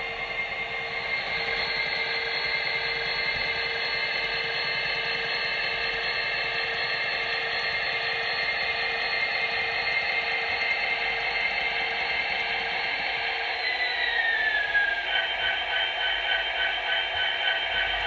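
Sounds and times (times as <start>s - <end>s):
diesel engine sound through small speaker: 0.0s - 18.0s.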